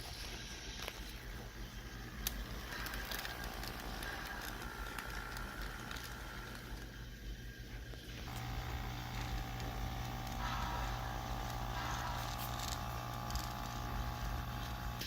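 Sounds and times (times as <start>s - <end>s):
model train motor hum and whine: 0.0s - 15.0s.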